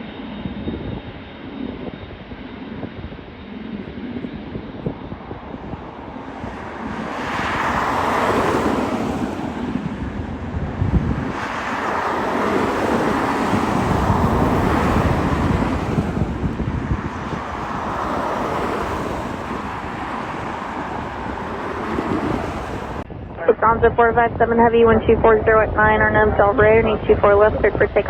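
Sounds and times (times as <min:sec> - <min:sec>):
jet airliner passing: 0:00.0 - 0:28.0
wind on microphone: 0:00.4 - 0:28.0.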